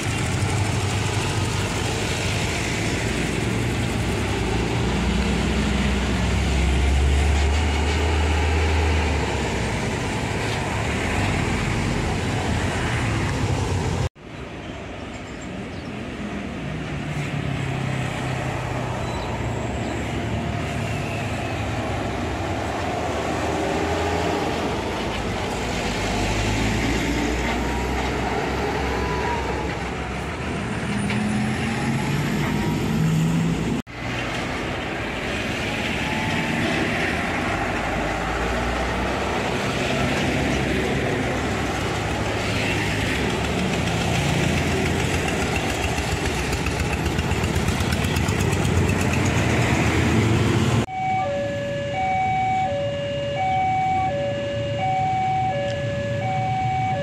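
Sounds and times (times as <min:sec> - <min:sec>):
diesel trucks driving past: 0:00.0 - 0:57.0.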